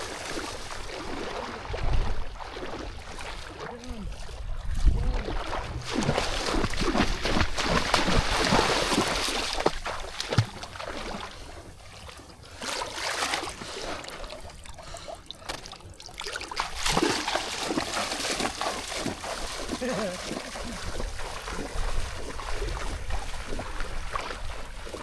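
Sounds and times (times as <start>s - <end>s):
water sloshing and splashing: 0.0s - 25.0s.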